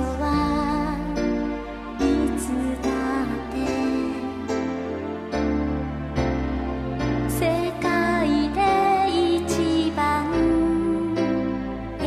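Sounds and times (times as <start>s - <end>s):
slow gentle music: 0.0s - 12.0s.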